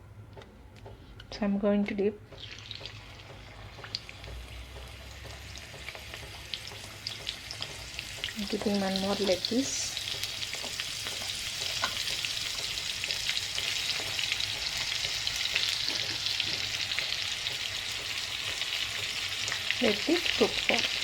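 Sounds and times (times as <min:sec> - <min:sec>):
crab deep-frying in hot oil: 0:02.3 - 0:21.0.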